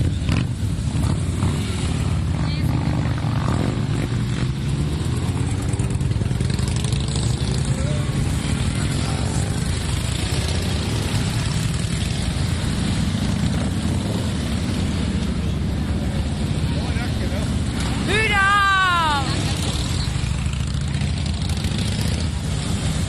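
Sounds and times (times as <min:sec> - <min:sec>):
motorcycle engines passing: 0:00.0 - 0:23.0.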